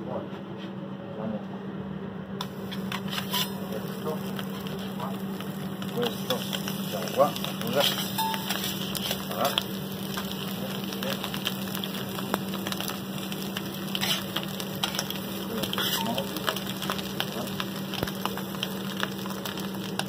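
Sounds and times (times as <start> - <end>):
ham sizzling on a griddle: 2.4 - 20.0.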